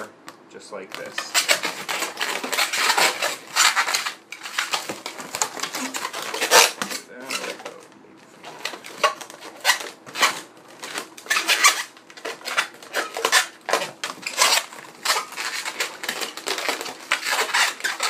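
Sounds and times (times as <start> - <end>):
balloons squeaking and rubbing: 0.9 - 7.8, 8.4 - 18.0.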